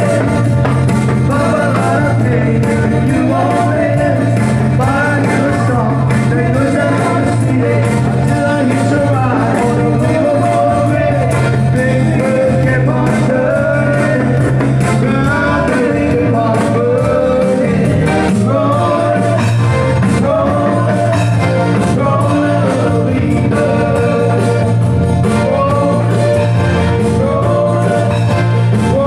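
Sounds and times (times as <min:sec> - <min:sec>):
drums beat: 0:00.0 - 0:29.0
electronic keyboard: 0:00.0 - 0:29.0
man singing: 0:00.0 - 0:29.0.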